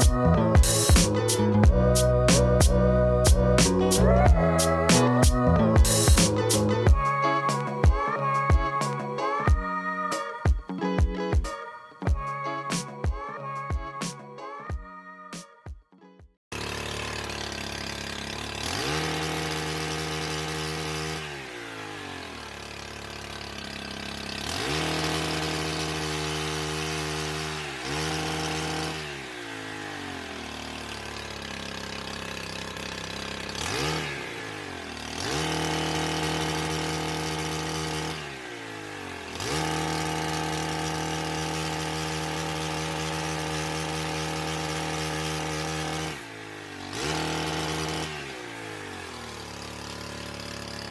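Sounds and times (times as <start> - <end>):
pole saw engine revving: 0.0 - 11.4, 16.5 - 50.9.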